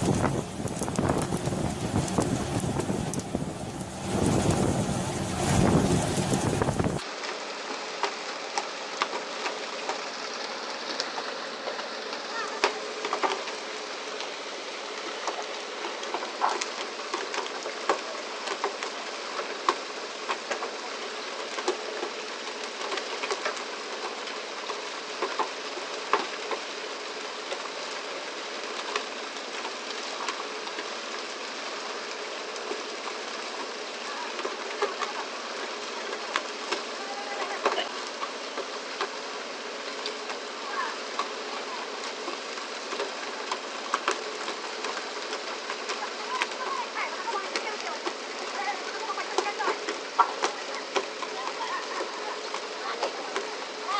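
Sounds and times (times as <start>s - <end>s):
water rushing along hull: 0.0s - 53.9s.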